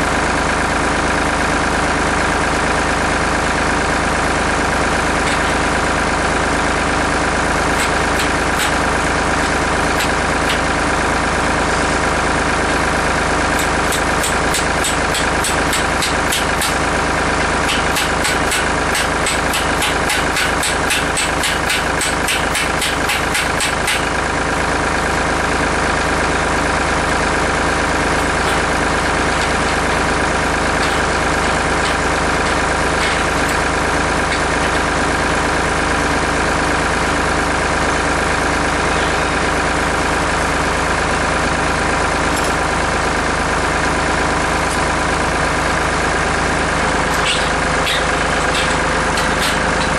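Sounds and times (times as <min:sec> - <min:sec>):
tractor engine idling: 0:00.0 - 0:49.9.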